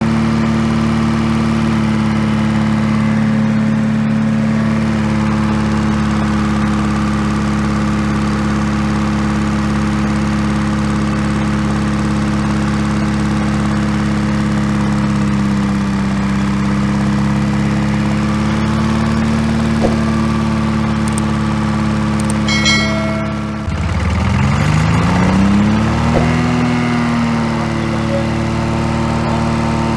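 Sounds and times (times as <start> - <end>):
two-stroke diesel engine running: 0.0 - 29.9.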